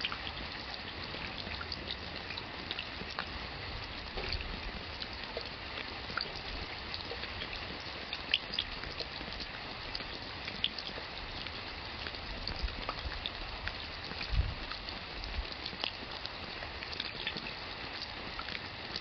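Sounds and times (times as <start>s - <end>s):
raindrops ticking and splashing: 0.0s - 19.0s
steady rain: 0.0s - 19.0s.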